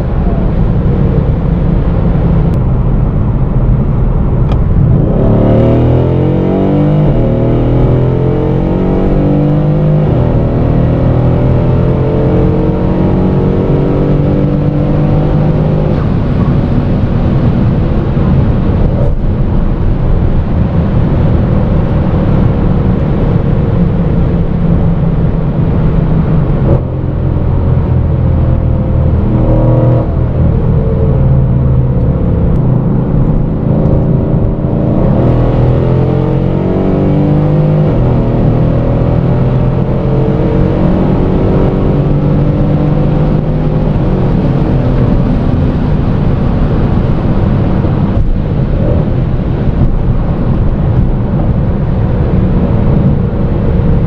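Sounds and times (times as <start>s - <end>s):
car engine pulling hard: 0.0s - 54.0s
road and wind noise: 0.0s - 54.0s.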